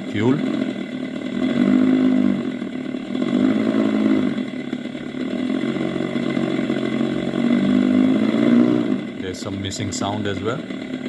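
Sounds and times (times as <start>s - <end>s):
artificial engine sound from speaker: 0.0s - 11.0s.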